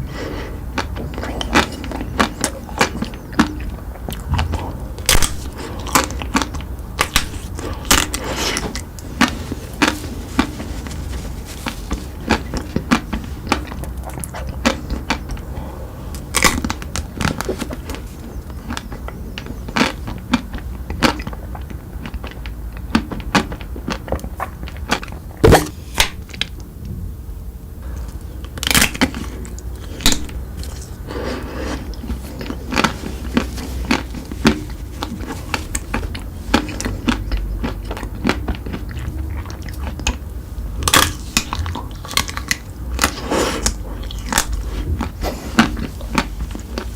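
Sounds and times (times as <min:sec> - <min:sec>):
chewing crunchy chocolate: 0:00.0 - 0:26.7, 0:27.8 - 0:46.9.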